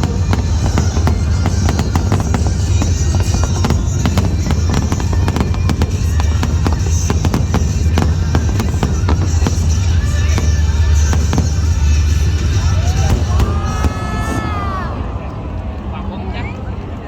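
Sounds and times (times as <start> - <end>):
fireworks bursting and crackling: 0.0 - 15.8
music playing: 0.0 - 16.2.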